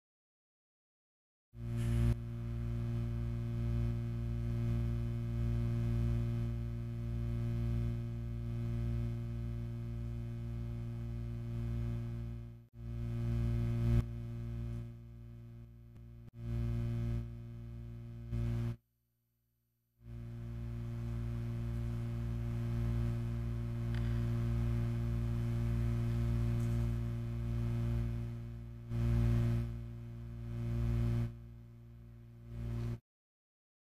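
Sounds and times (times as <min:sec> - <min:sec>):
electric hum of low tones: 0:01.6 - 0:18.8, 0:20.1 - 0:33.0.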